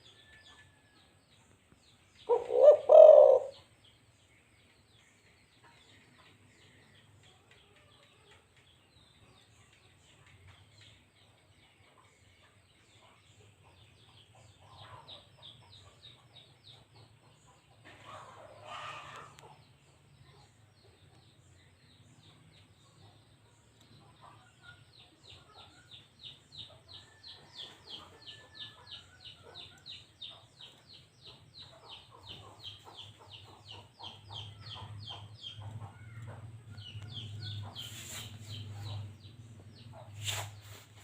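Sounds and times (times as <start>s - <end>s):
faint chicken clucking: 0.0s - 41.0s
small birds chirping: 0.0s - 41.0s.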